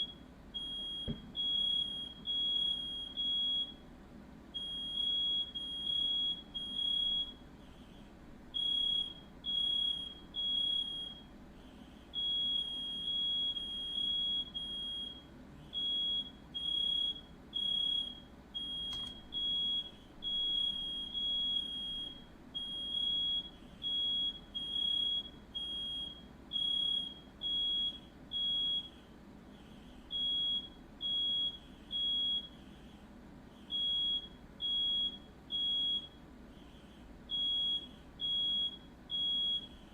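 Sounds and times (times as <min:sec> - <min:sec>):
smoke alarm beeping: 0:00.0 - 0:03.9, 0:04.5 - 0:07.5, 0:08.5 - 0:11.4, 0:12.1 - 0:29.0, 0:30.1 - 0:32.6, 0:33.6 - 0:36.3, 0:37.3 - 0:39.8.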